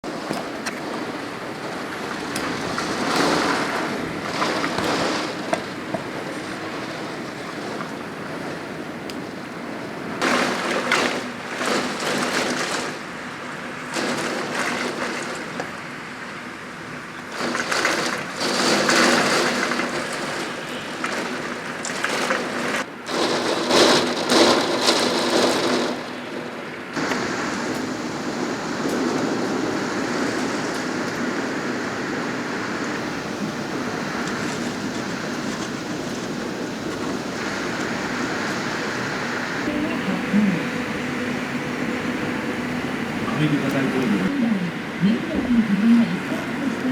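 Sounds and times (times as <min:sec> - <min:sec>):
strong wind gusts: 0:00.0 - 0:12.8, 0:18.4 - 0:46.9
rain: 0:00.0 - 0:46.9.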